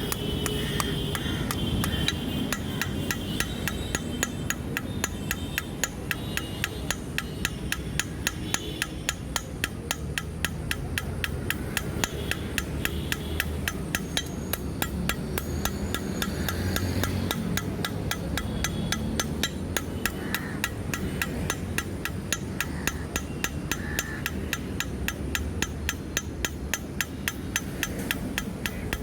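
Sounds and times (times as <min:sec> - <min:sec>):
hammer striking steel on anvil: 0:00.0 - 0:29.0.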